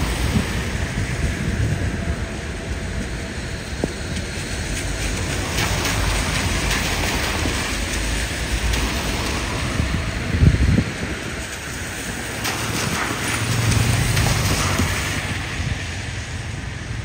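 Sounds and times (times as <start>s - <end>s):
rushing hissing noise: 0.0s - 17.0s.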